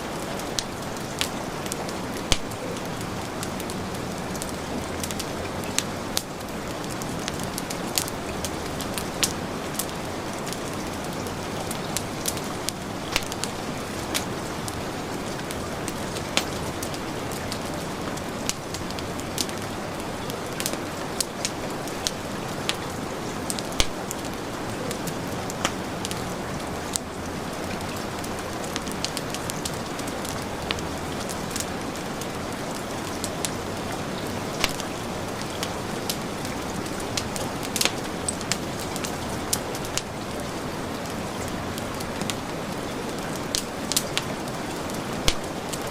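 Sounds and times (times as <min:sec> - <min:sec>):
heavy rain: 0:00.0 - 0:45.9
wood fire crackling and popping: 0:00.0 - 0:45.9.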